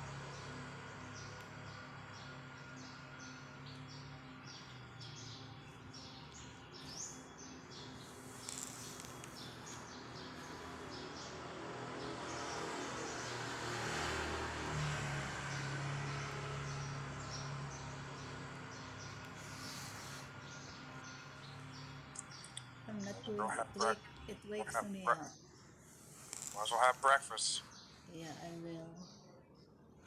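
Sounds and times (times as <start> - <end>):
motor vehicle approaching: 0.0 - 24.1
small birds chirping: 0.0 - 30.0.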